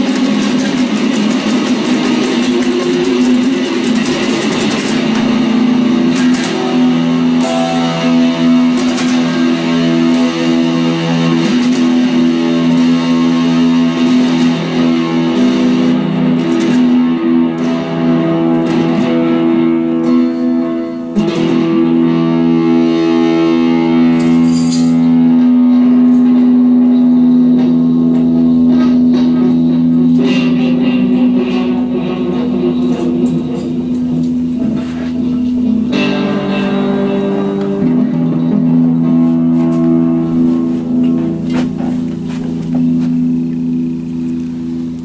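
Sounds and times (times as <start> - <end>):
electric guitar instrumental: 0.0 - 45.0.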